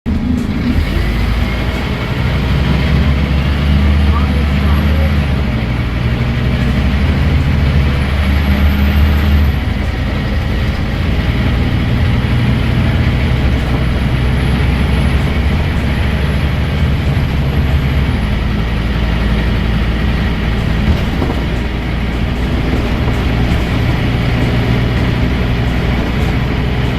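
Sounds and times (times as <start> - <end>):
bus diesel engine running: 0.0 - 26.9.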